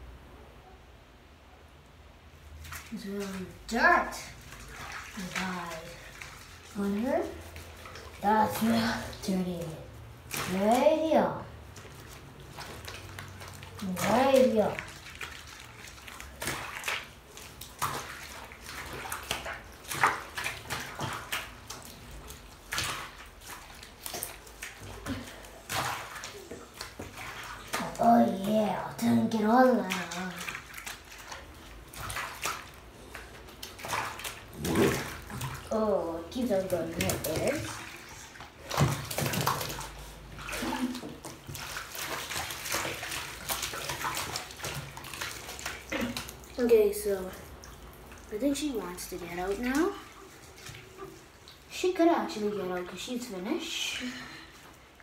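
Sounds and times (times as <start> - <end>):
bathwater splashing: 2.3 - 55.0.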